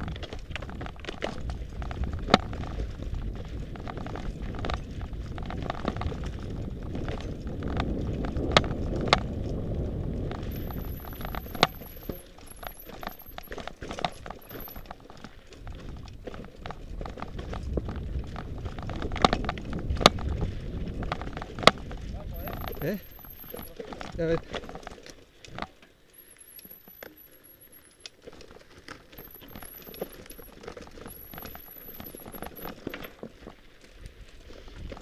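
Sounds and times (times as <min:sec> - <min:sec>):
bike clacking and rattling on rocks: 0:00.0 - 0:35.0
bike tyres rumbling over stones: 0:00.0 - 0:35.0.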